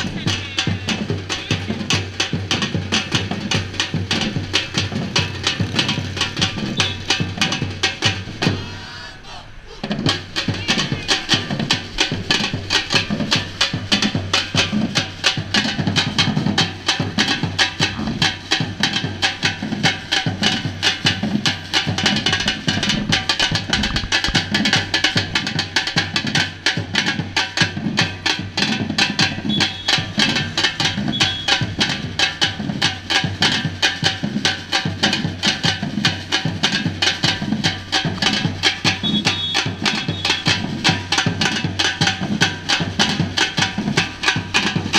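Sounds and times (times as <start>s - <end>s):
percussion band drumming: 0.0s - 8.9s, 9.8s - 44.9s.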